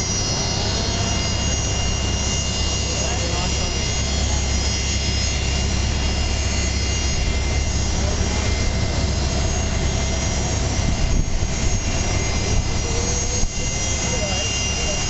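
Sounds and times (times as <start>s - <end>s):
high turbine whine: 0.0s - 15.0s
jet engines rumbling: 0.0s - 15.0s.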